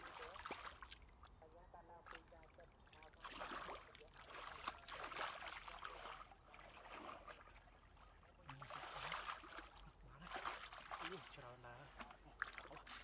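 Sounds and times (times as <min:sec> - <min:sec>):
muddy water splashing and sloshing: 0:00.0 - 0:13.0.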